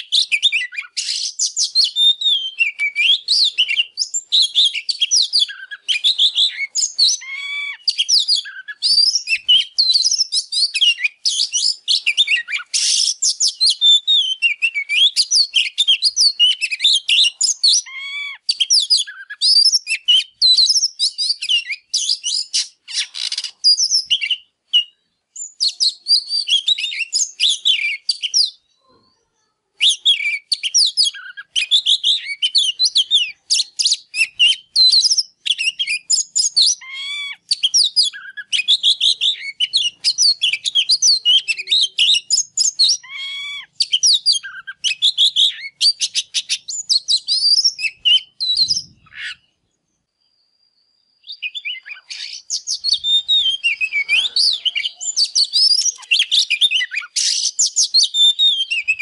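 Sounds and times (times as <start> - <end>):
bird singing whistles and trills: 0.0 - 28.9, 29.8 - 59.0.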